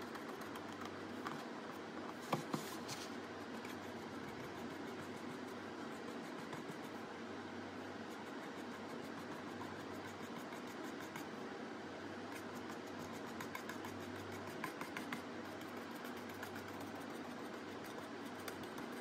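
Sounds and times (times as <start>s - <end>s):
room hum and hiss: 0.0s - 19.0s.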